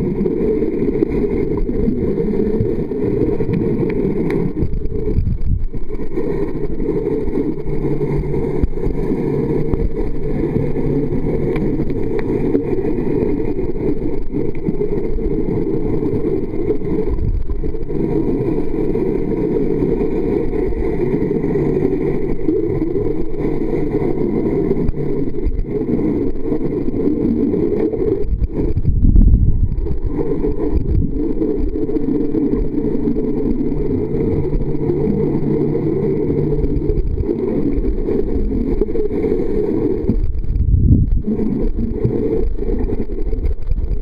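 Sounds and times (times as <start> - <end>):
muffled underwater rumble: 0.0 - 44.0.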